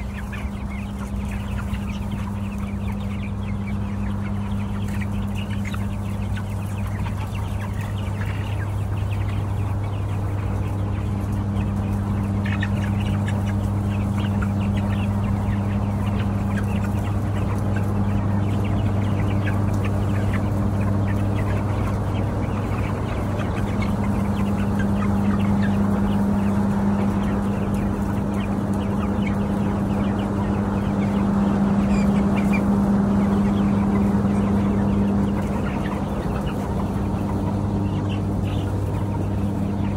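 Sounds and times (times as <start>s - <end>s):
chickens clucking: 0.0s - 39.9s
ventilation fans humming: 0.0s - 39.9s.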